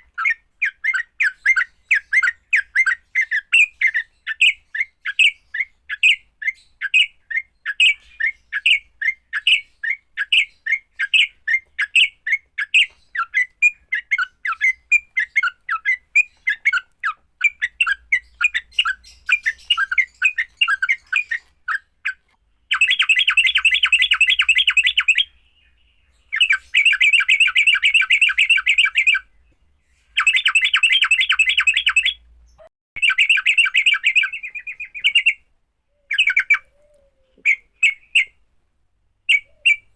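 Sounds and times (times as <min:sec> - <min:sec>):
bulbul fighting calls: 0:00.2 - 0:25.4, 0:26.1 - 0:29.3, 0:30.2 - 0:35.4, 0:36.0 - 0:38.4, 0:39.3 - 0:39.9.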